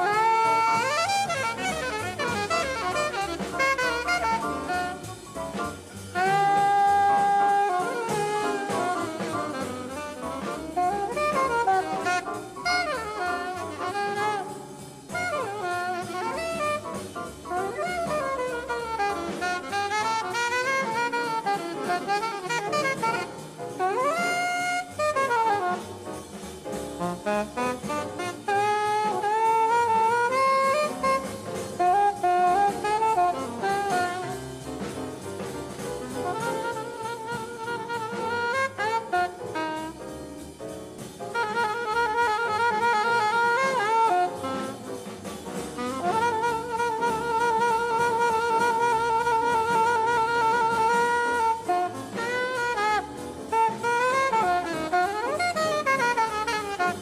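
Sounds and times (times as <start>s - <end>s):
jazz drums: 0.0s - 57.0s
saxophone solo: 0.0s - 57.0s.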